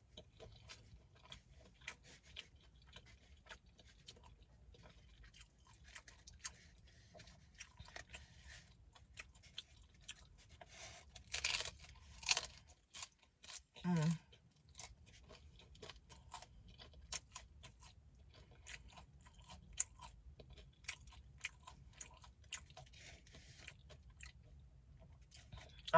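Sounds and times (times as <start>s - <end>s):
person chewing crunchy food: 0.0s - 25.9s.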